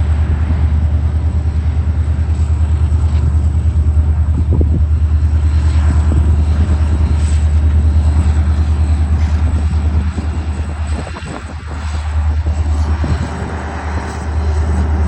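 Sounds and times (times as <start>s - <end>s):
diesel locomotive engine throbbing: 0.0s - 15.0s.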